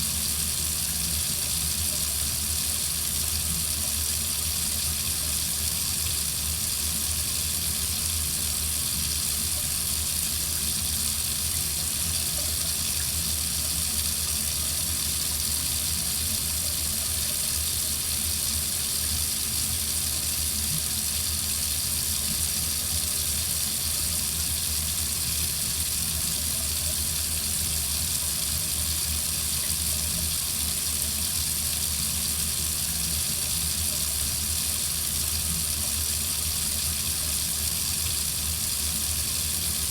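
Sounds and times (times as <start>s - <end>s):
faucet running into sink: 0.0s - 39.9s.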